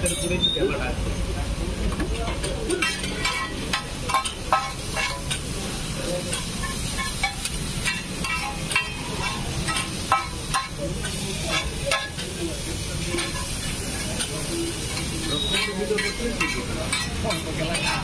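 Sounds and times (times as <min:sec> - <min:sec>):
noodles sizzling on a griddle: 0:00.1 - 0:18.0
metal spatulas clinking and scraping: 0:02.2 - 0:05.5, 0:06.2 - 0:18.0.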